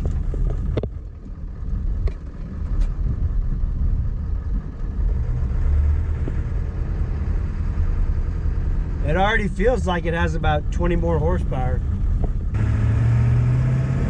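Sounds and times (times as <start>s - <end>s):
diesel truck engine drone: 0.0s - 14.0s
road noise: 0.0s - 14.0s.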